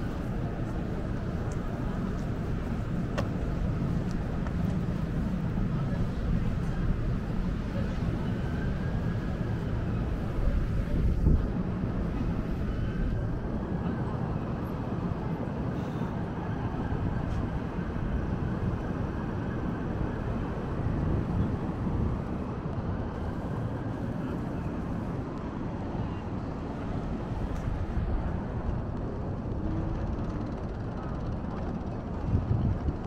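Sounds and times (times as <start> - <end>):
road traffic rush: 0.0 - 33.0.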